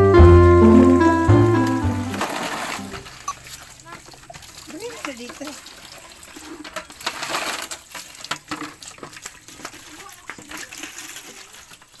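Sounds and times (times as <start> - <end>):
water splashing into basin: 0.2 - 12.0.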